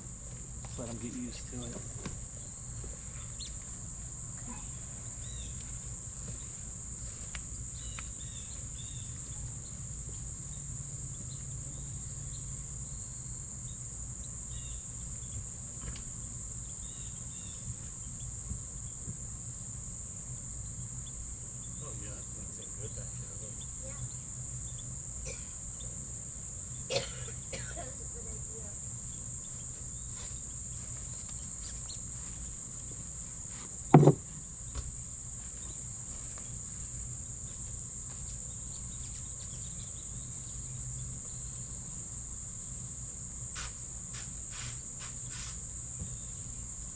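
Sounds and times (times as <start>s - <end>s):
insect chorus high-pitched drone: 0.0s - 46.9s.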